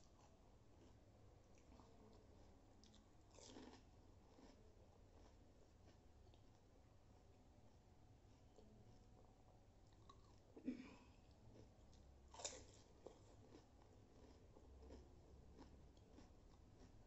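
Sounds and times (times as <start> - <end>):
quiet chewing: 0.0 - 17.0.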